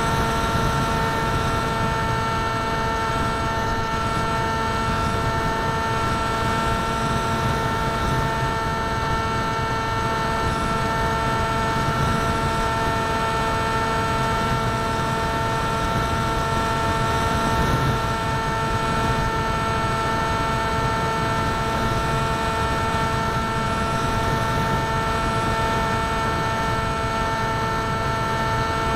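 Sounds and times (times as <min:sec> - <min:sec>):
airplane motor and propeller running: 0:00.0 - 0:28.9.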